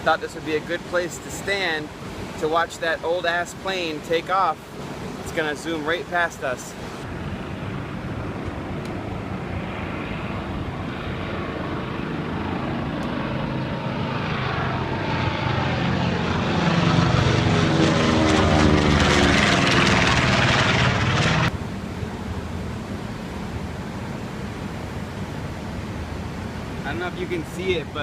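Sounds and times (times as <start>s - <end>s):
propeller airplane passing by: 0.0s - 28.0s.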